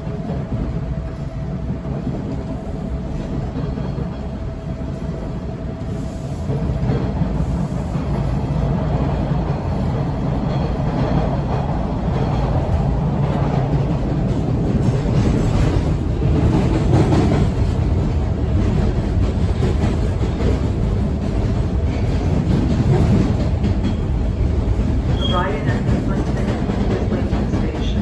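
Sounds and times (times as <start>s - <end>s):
subway car rumbling and rattling: 0.0s - 28.0s.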